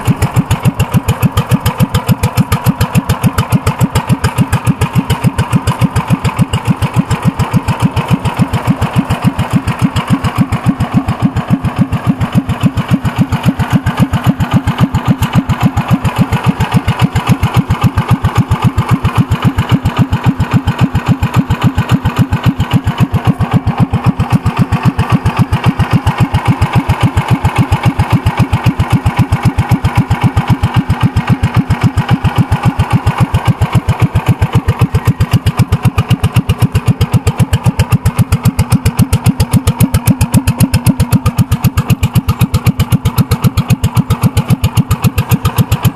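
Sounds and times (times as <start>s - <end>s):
three-wheeler engine idling: 0.0s - 45.9s.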